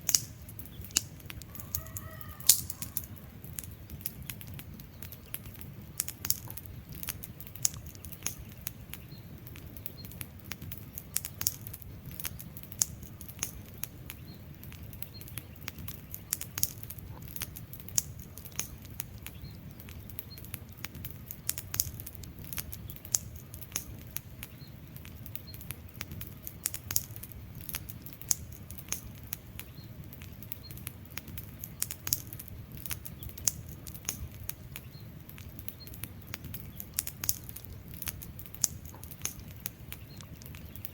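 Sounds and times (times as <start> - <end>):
low rush of flames: 0.0 - 40.9
wood fire crackling and popping: 0.0 - 40.9.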